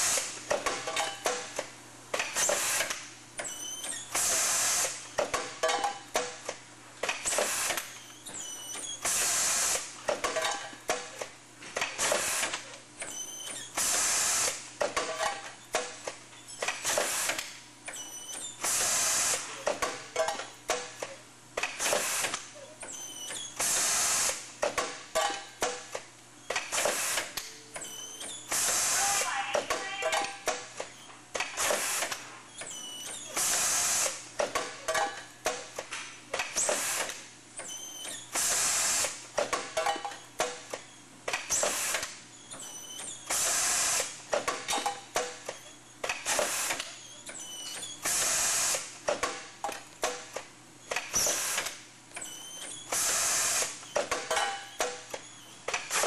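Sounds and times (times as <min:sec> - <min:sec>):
mechanical clicks and clacks: 0:08.7 - 0:56.0.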